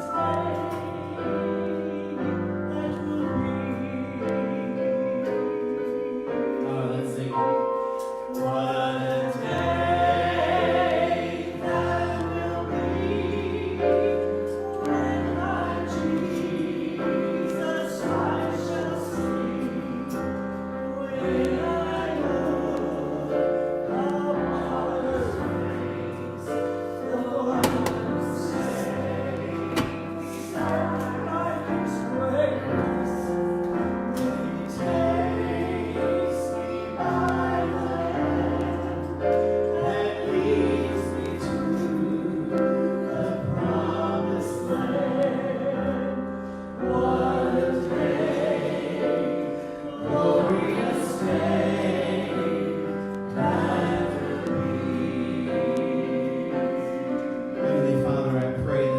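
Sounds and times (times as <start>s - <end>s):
person singing gospel: 0.0s - 58.9s
sustained keyboard chords: 0.0s - 58.9s.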